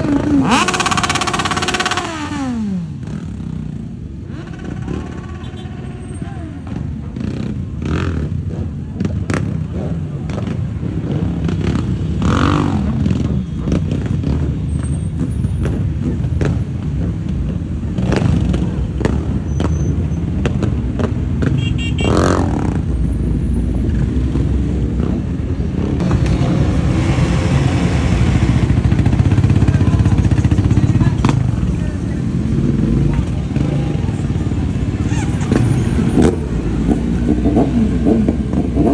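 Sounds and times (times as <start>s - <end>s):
motorcycle engines rumbling: 0.0s - 38.9s.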